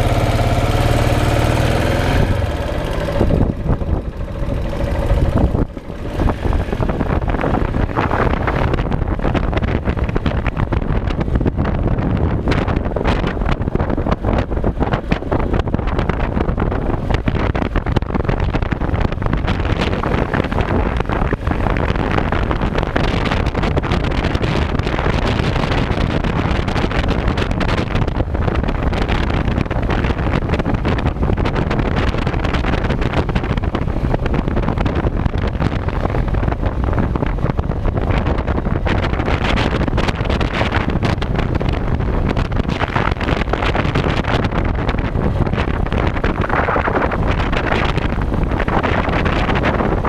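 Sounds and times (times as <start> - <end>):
motorcycle engine: 0.0 - 50.0
road noise: 0.0 - 50.0
wind rushing over microphone: 0.0 - 50.0.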